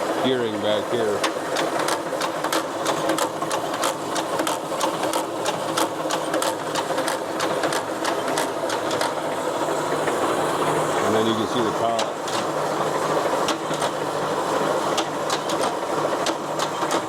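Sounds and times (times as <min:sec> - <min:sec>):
lathe humming: 0:00.0 - 0:17.0.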